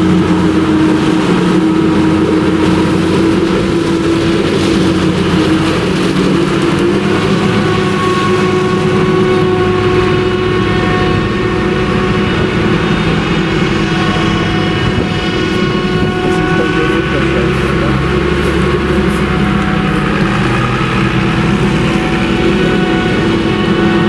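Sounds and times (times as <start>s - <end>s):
engines running under load: 0.0s - 24.0s
high-pitched machine whine: 0.0s - 24.0s.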